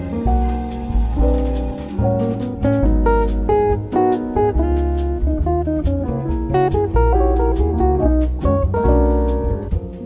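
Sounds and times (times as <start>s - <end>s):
acoustic guitar music with bass: 0.0s - 10.0s.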